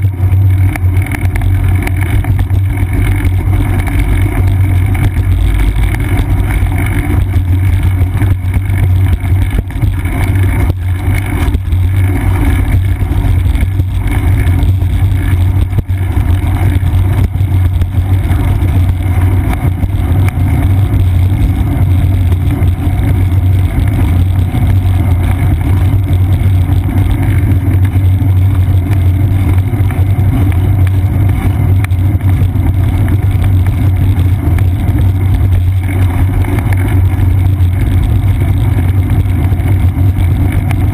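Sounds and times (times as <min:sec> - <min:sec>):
bicycle rolling on pavement: 0:00.0 - 0:40.9
wind: 0:00.0 - 0:40.9.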